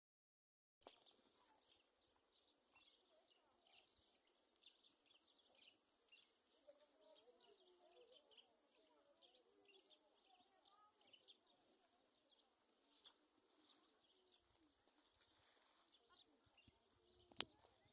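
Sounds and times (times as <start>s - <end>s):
bird chirps: 0.8s - 17.9s
high insect drone: 0.9s - 17.9s.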